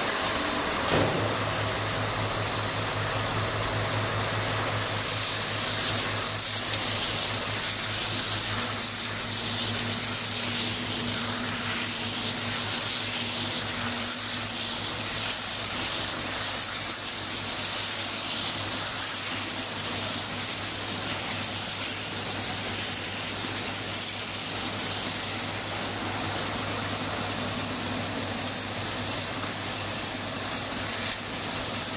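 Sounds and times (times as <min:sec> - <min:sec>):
baler machine running: 0:00.0 - 0:31.9.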